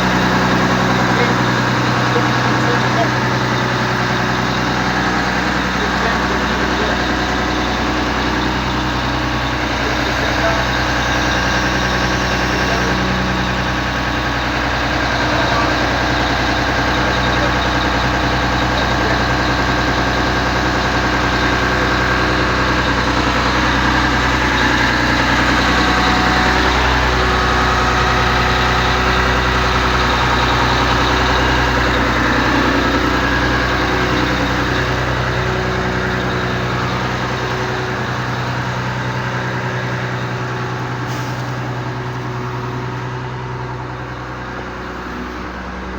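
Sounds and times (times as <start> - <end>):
crane engine idling: 0.0 - 45.9.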